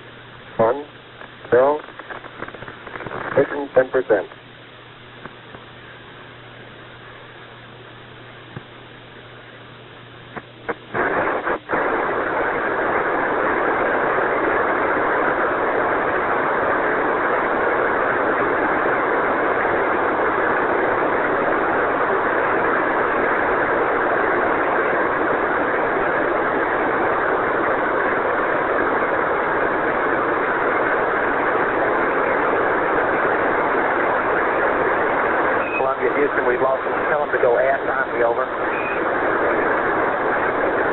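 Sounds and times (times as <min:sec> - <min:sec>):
radio static clicks: 0:00.0 - 0:40.9
radio static hiss: 0:00.0 - 0:40.9.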